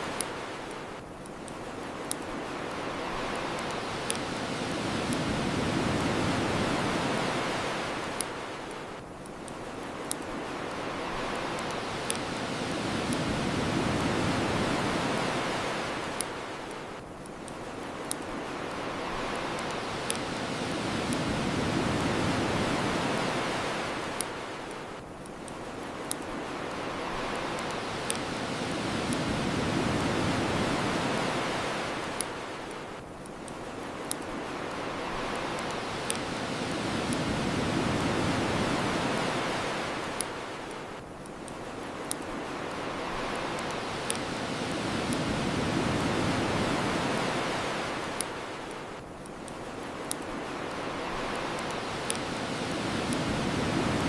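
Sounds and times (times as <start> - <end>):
bonfire crackling and popping: 0.0 - 54.0
ocean waves washing ashore: 0.0 - 54.0.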